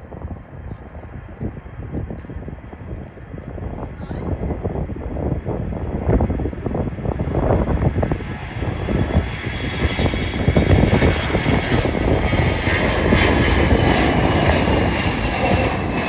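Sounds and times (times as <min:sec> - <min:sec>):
airliner engines rumbling: 0:00.0 - 0:16.0.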